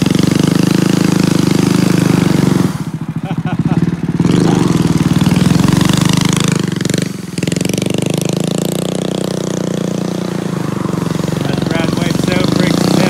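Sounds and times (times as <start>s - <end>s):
small engine pulsing drone: 0.0s - 13.0s.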